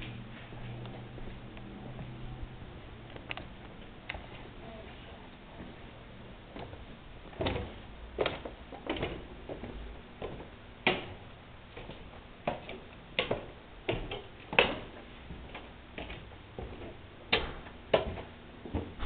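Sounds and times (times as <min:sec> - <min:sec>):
footsteps on stairs: 0:00.0 - 0:04.5, 0:06.5 - 0:19.0.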